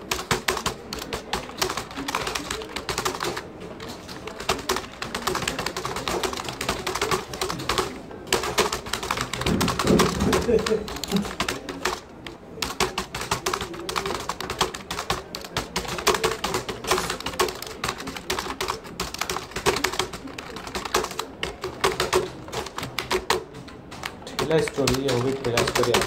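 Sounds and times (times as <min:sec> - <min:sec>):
fast typing on keyboard: 0:00.0 - 0:26.0.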